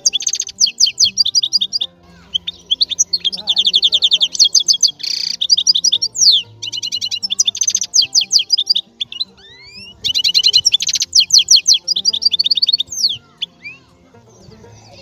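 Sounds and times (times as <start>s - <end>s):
songbird trills and whistles: 0.0s - 15.0s.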